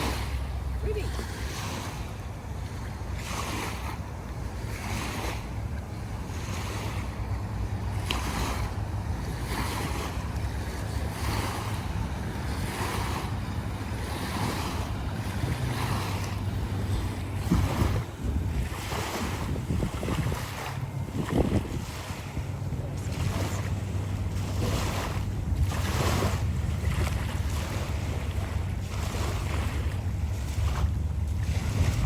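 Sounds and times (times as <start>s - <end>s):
waves washing in and out: 0.0s - 32.0s
wind rumbling on microphone: 0.0s - 32.0s.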